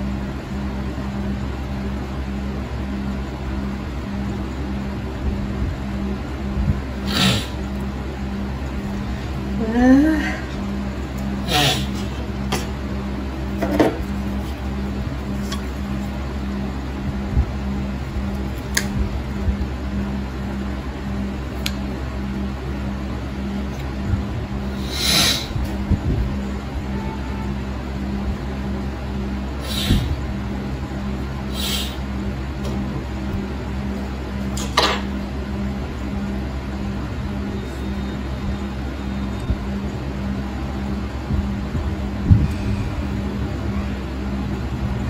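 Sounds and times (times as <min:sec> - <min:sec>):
low mechanical hum: 0:00.0 - 0:45.0
low pulsing tone: 0:00.0 - 0:45.0.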